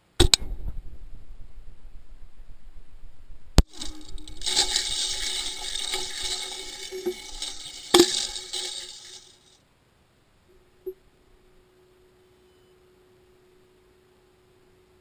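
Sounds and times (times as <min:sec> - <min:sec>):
steady hiss with faint hum: 0:00.0 - 0:15.0.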